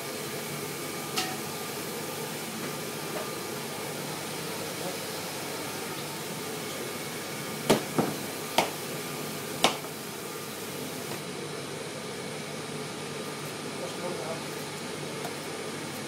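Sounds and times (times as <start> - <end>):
fan-like hiss: 0.0 - 16.0.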